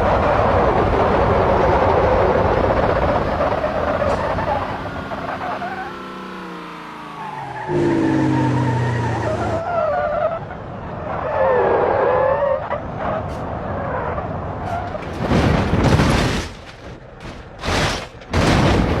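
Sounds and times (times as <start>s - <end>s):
truck engine under load: 0.0s - 19.0s
tyres skidding on dirt: 0.0s - 19.0s.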